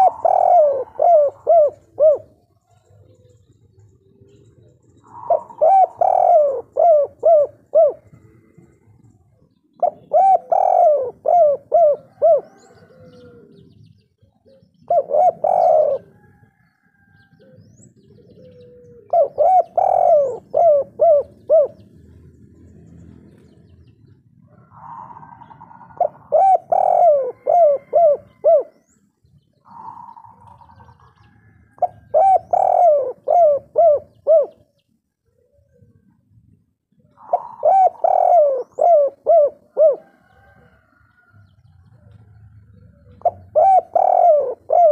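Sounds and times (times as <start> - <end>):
dove cooing: 0.0 - 36.3, 36.9 - 44.9.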